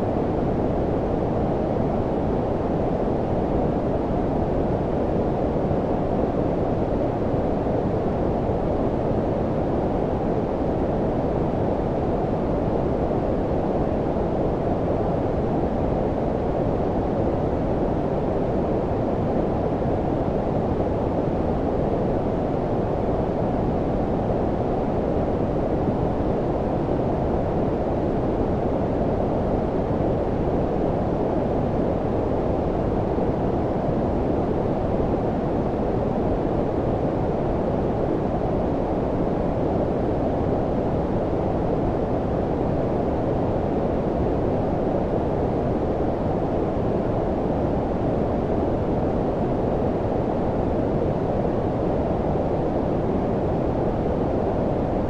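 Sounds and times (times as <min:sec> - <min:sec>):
low muffled brown noise: 0:00.0 - 0:55.0.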